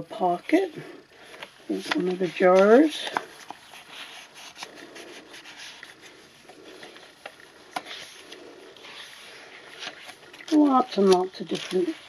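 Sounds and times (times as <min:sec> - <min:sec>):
paper pages rustling: 0:01.2 - 0:12.0.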